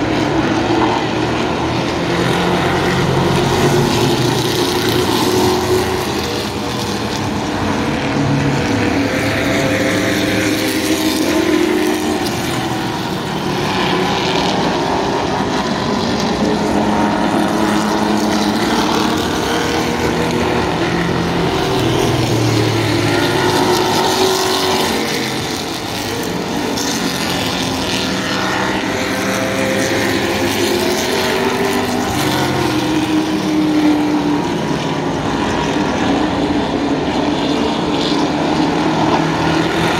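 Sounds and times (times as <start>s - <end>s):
racing car engines passing: 0.0s - 39.9s.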